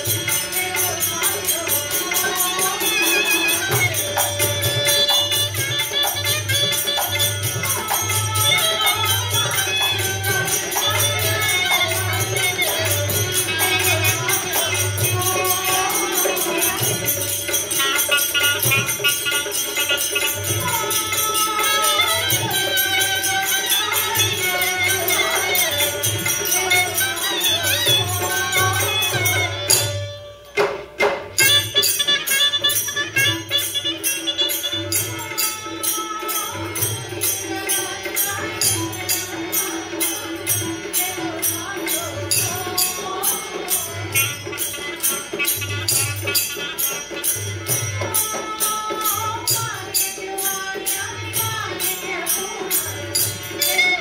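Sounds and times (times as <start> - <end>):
jingling hand cymbals: 0.0 - 54.0.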